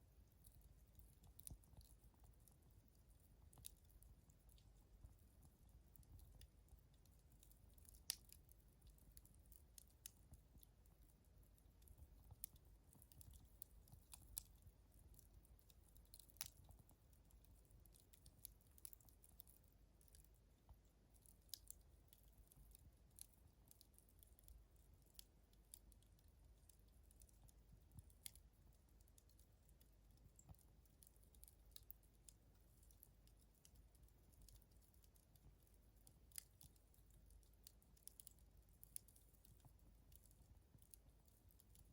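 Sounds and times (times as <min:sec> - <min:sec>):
campfire crackling: 0:00.2 - 0:20.3, 0:21.2 - 0:41.9.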